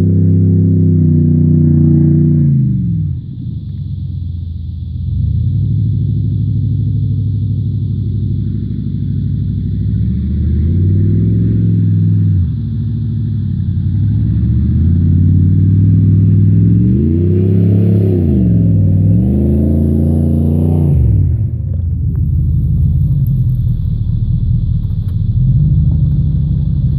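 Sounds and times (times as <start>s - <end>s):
truck engine revving: 0.0s - 4.5s, 5.1s - 26.9s.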